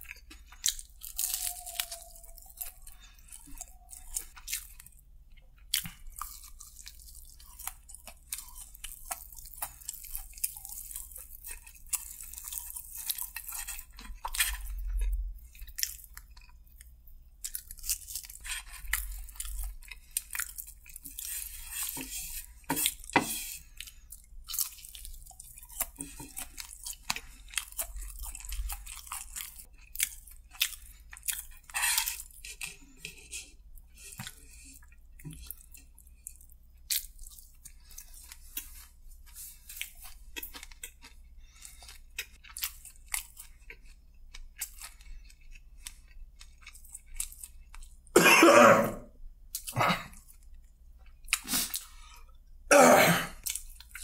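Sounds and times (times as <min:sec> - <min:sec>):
crunchy food chewing: 0:00.0 - 0:48.1, 0:49.1 - 0:52.6, 0:53.3 - 0:54.0.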